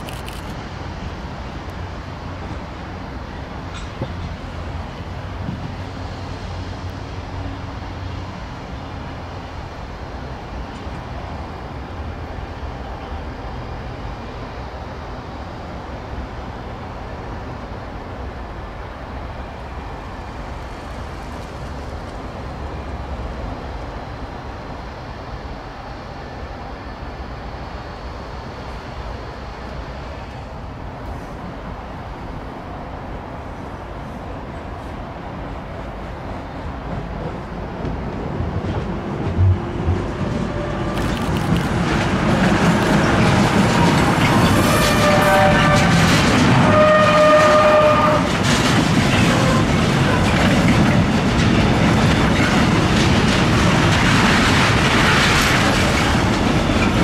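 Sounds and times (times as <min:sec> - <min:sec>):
distant trains rumbling: 0:00.0 - 0:57.0.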